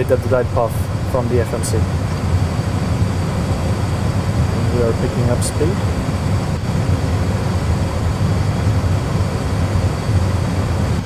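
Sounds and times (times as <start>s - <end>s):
aircraft cockpit rumble: 0.0s - 11.0s.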